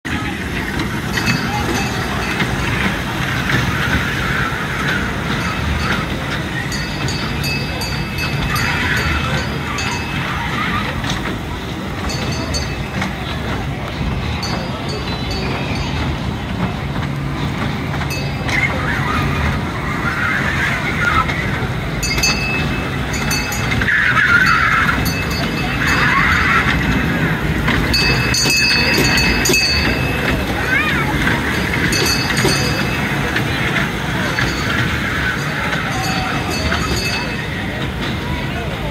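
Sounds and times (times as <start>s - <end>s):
fairground noise: 0.0s - 38.9s
kiddie ride train passing: 0.0s - 38.9s.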